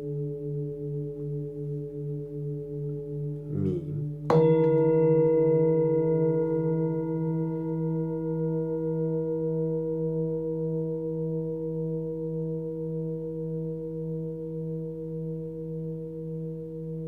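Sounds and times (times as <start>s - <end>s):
singing bowl ringing: 0.0s - 3.5s, 4.1s - 17.0s.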